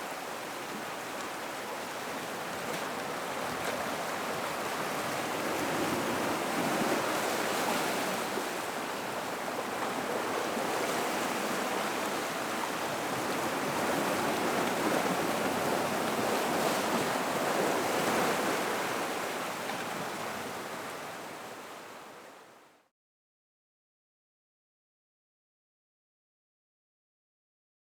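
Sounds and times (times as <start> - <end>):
gentle waves in rock pool: 0.0 - 22.8.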